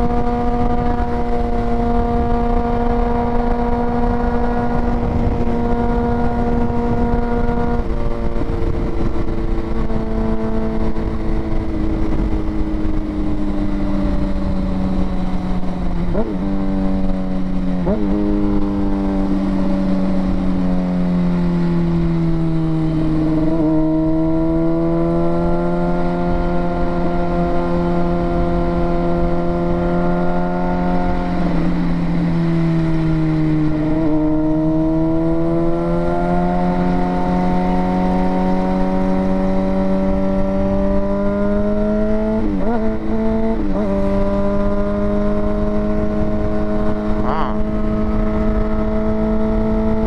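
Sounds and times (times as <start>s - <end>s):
motorcycle engine cruising: 0.0s - 50.0s
wind rumbling on microphone: 0.0s - 50.0s.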